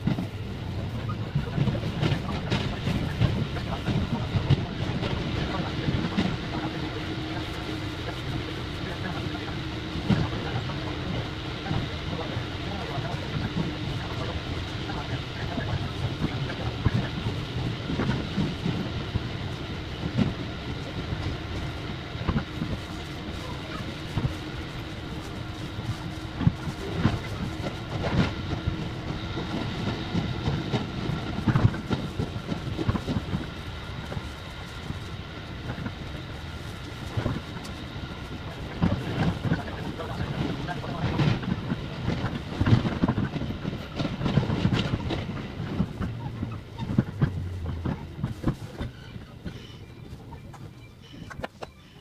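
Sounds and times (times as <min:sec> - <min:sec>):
train running noise: 0:00.0 - 0:52.0.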